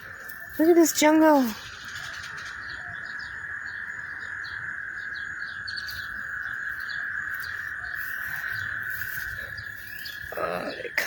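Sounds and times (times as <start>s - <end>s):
chorus of frogs calling: 0.0s - 11.0s.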